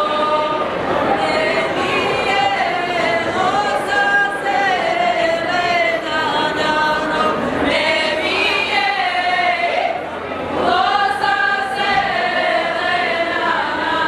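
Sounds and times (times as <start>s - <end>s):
women singing folk song: 0.0s - 14.0s.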